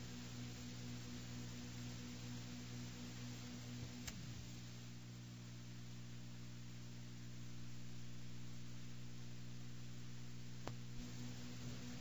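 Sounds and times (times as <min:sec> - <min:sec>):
electrical hum and tape hiss: 0:00.0 - 0:12.0.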